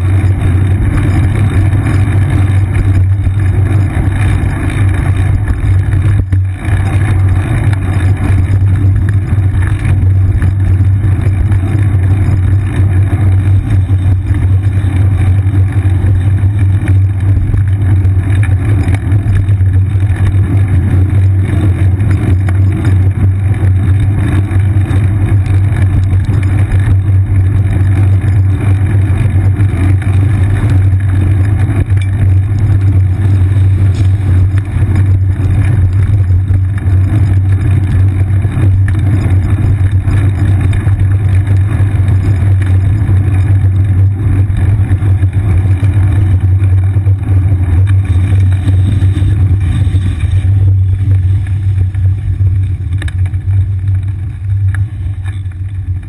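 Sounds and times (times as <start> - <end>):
road vibration rumble: 0.0 - 56.0
wind: 0.0 - 56.0.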